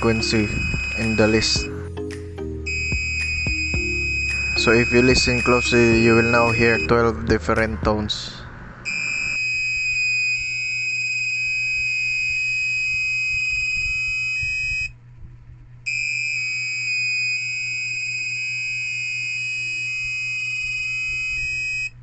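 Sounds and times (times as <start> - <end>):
buzzer beeping changing tones: 0.0 - 2.0, 2.6 - 7.2, 8.9 - 14.9, 15.9 - 22.0.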